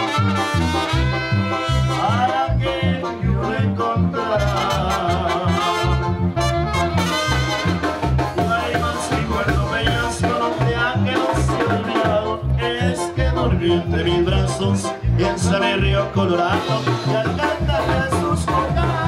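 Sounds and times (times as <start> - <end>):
brass band music: 0.0 - 19.0.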